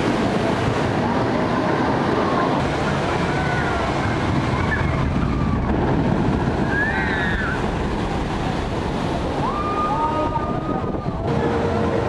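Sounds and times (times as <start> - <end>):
boat splashing down: 0.0 - 12.0
water rushing down flume: 0.0 - 12.0.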